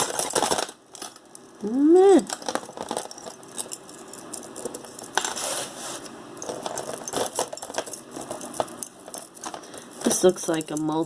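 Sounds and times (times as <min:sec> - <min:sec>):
necklace chains clinking: 0:00.0 - 0:05.4, 0:06.4 - 0:11.0.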